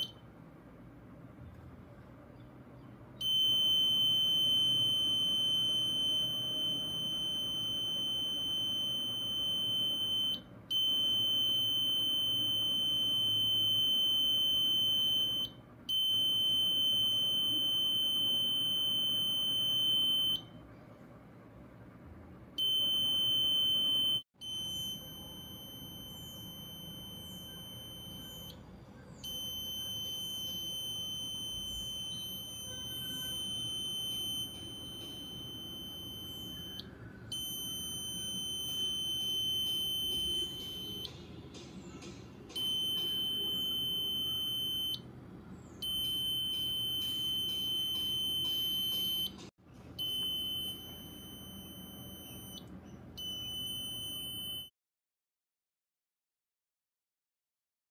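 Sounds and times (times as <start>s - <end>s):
high-pitched buzzer tone: 3.2s - 20.6s, 22.6s - 41.3s, 42.5s - 45.1s, 45.7s - 54.7s.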